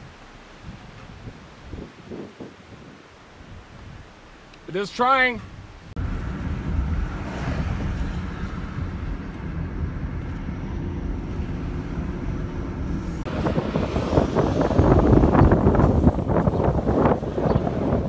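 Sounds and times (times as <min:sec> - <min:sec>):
wind buffeting microphone: 0:00.0 - 0:04.5, 0:05.4 - 0:18.0
vehicle road and engine rumble: 0:00.0 - 0:18.0.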